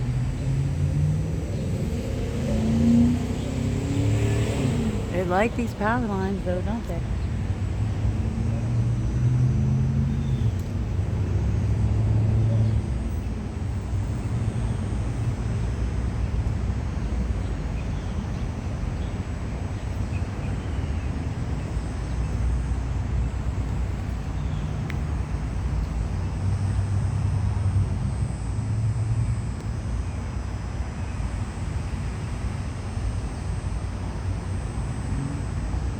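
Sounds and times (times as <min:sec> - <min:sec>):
motor vehicle rumble: 0:00.0 - 0:35.9.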